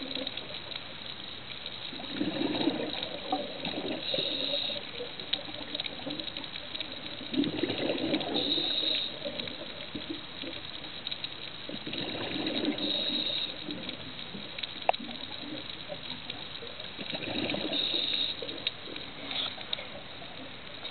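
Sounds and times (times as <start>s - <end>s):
steady water hiss: 0.0s - 20.9s
gurgling exhaled bubbles: 1.9s - 10.7s, 11.7s - 20.6s.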